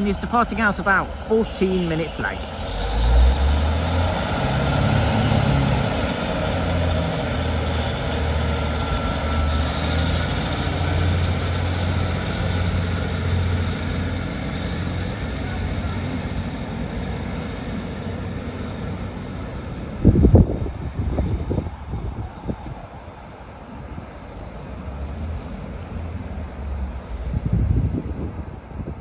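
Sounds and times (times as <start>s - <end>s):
train diesel engine drone: 0.0s - 29.0s.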